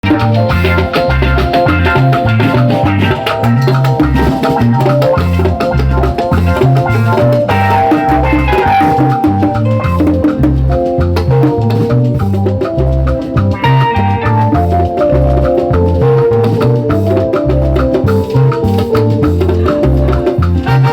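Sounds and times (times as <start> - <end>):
instrumental salsa music: 0.0 - 20.9.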